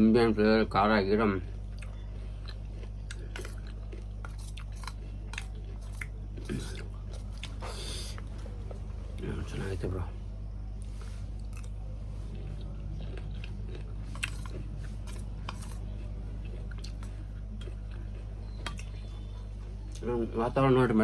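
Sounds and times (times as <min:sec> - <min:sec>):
steady low hum: 0:00.0 - 0:21.0
person chewing: 0:01.4 - 0:09.3, 0:10.7 - 0:20.1.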